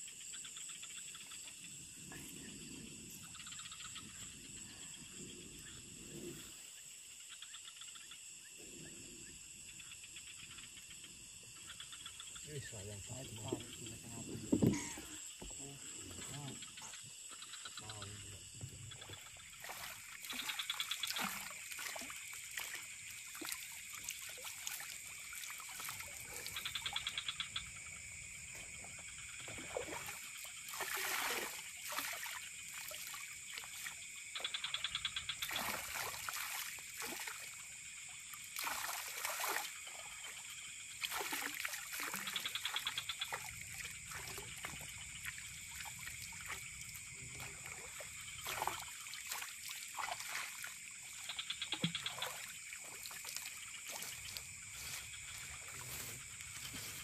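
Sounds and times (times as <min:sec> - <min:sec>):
frog calling in rattling pulses: 0:00.0 - 0:56.7
high insect drone: 0:00.0 - 0:57.0
water trickling and splashing: 0:10.3 - 0:57.0.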